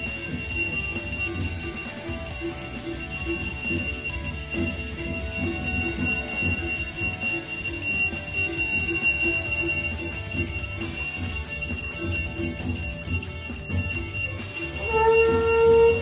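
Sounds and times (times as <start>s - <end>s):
brass hand bell ringing: 0.0s - 16.0s
low rhythmic strikes: 0.0s - 16.0s.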